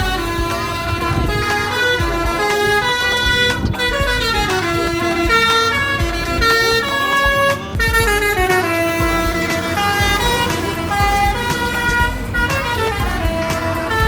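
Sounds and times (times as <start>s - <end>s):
bus air horn melody: 0.0s - 14.0s
bus engine rumble: 0.0s - 14.0s.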